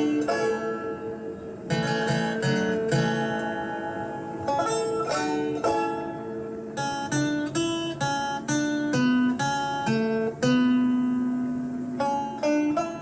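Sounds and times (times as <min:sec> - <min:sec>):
plucked acoustic guitar melody: 0:00.0 - 0:13.0.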